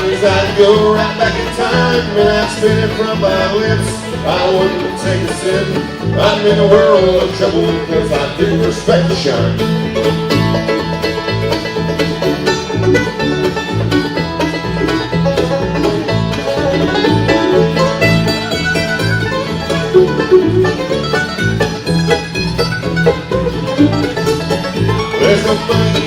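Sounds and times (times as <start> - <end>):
bass line: 0.0 - 26.0
fast plucked-string picking: 0.0 - 26.0.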